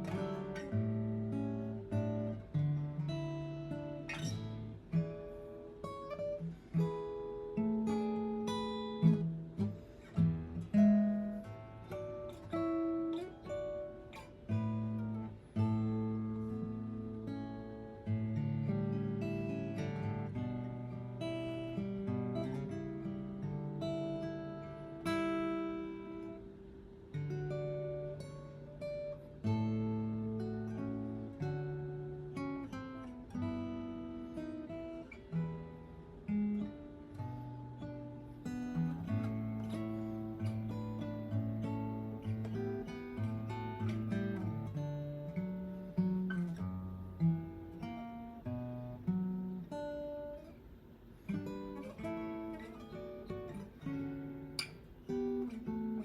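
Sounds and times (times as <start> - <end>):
guitar plucked notes and chords: 0.0 - 56.0.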